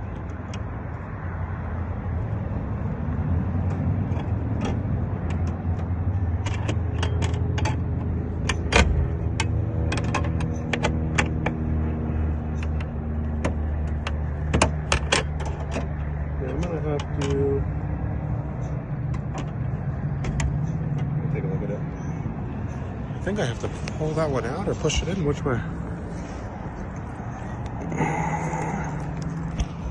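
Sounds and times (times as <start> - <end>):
low vehicle rumble: 0.0 - 29.9.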